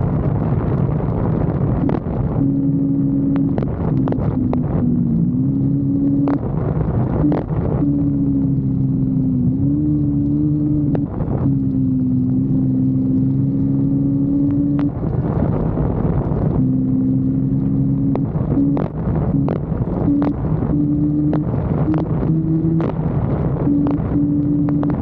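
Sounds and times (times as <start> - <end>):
motorcycle engine droning: 0.0 - 25.0.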